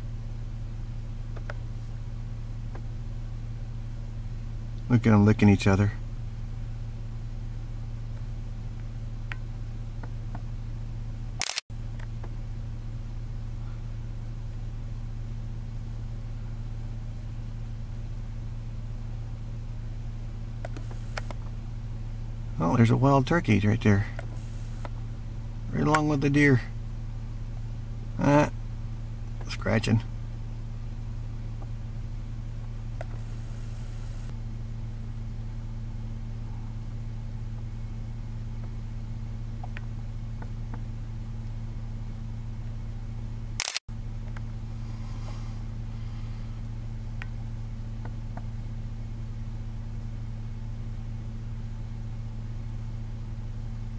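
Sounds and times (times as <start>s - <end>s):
vehicle engine idling: 0.0s - 53.9s.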